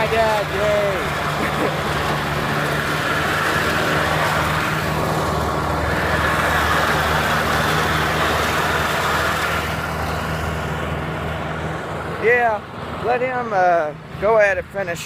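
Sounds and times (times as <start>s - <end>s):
lawnmower engine drone: 0.0s - 15.0s.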